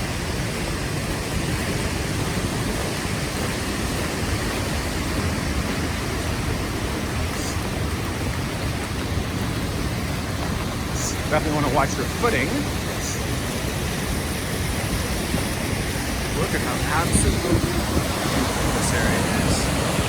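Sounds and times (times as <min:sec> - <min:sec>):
fast-flowing creek roaring: 0:00.0 - 0:20.0.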